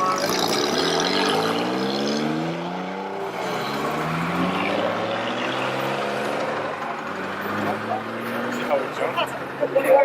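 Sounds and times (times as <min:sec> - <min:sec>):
car engines driving past: 0:00.0 - 0:10.0.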